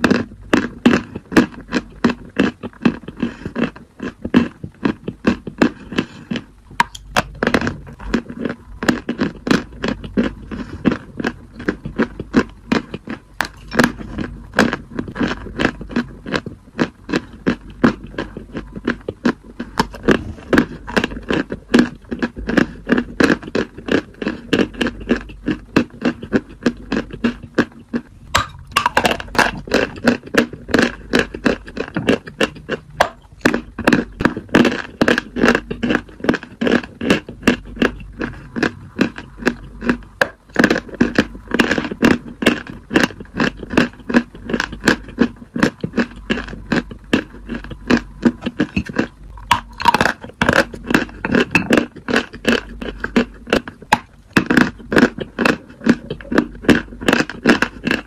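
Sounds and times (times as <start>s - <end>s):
chalk being chewed: 0.0s - 28.1s, 28.8s - 58.0s.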